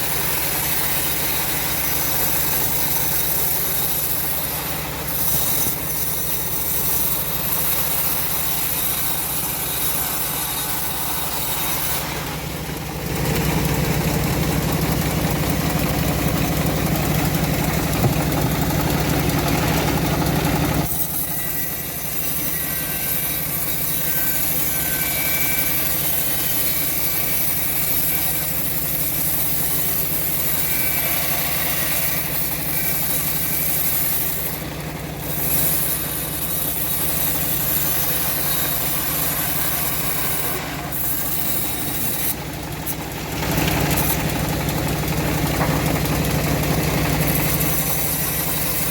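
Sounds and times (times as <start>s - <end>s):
bandsaw mill sawing wood: 0.0s - 48.9s.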